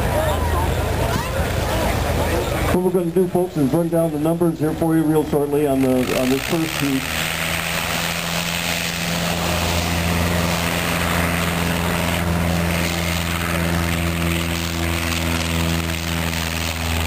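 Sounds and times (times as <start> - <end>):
small plane engine and propeller droning: 0.0 - 17.0.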